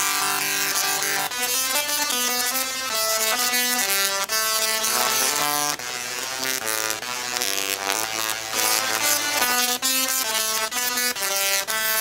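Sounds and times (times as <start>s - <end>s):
tesla coils buzzing a tune: 0.0s - 12.0s.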